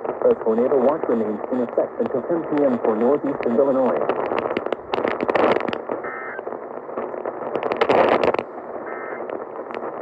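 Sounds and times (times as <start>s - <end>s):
noisy static surges: 0.0s - 10.0s
radio static hiss: 0.0s - 10.0s.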